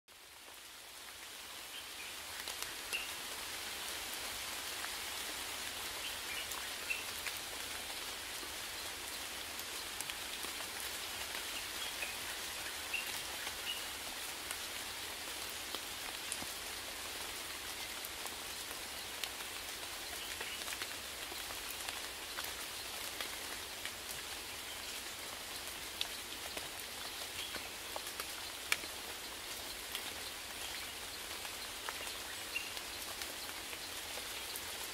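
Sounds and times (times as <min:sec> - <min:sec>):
rain pattering on leaves: 0:00.1 - 0:34.9.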